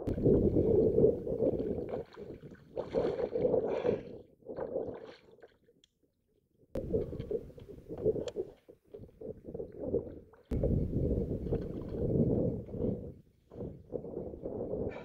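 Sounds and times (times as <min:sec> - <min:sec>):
water splashing around a kayak: 0:00.0 - 0:05.8, 0:06.8 - 0:13.0.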